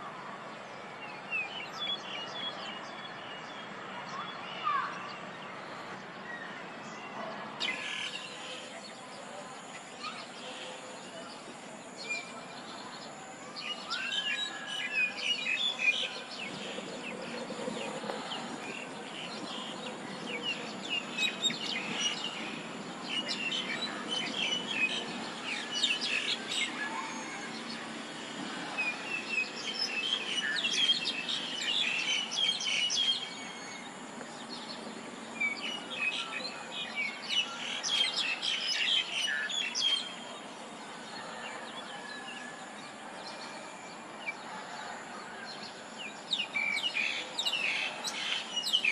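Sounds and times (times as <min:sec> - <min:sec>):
low background noise: 0:00.0 - 0:48.9
songbirds chirping: 0:00.0 - 0:48.9.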